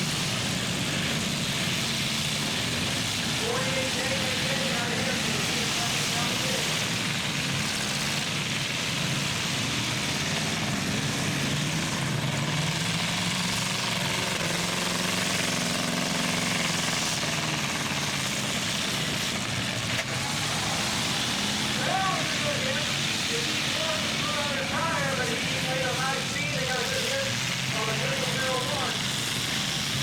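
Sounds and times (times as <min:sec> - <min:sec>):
truck engines running: 0:00.0 - 0:30.0.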